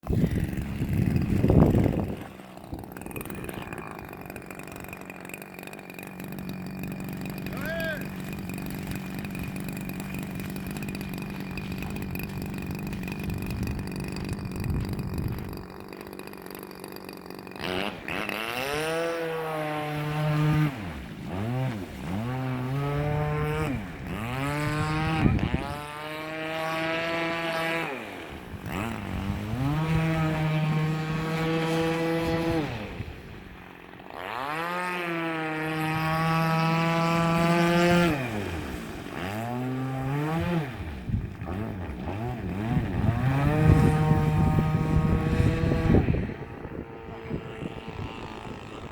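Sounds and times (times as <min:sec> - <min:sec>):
small two-stroke engine revving: 0:00.0 - 0:48.9.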